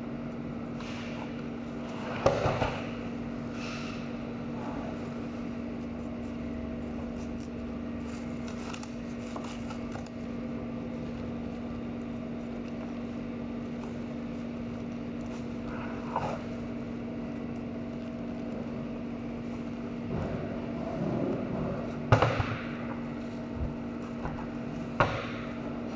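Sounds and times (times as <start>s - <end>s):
machinery hum: 0.0s - 25.9s.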